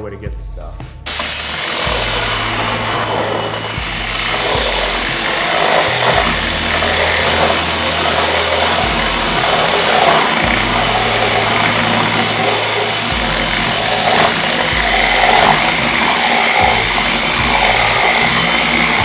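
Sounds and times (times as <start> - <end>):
angle grinder motor whine: 1.1 - 19.0
gritty grinding on concrete: 1.1 - 19.0.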